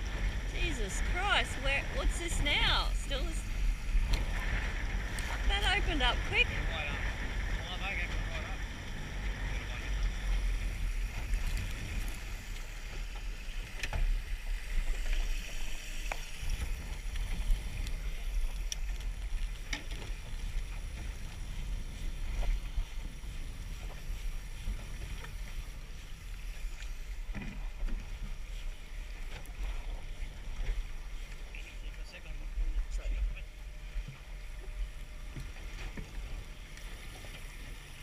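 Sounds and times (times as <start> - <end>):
boat engine rumble: 0.0 - 38.0
water and wind hiss: 0.0 - 38.0.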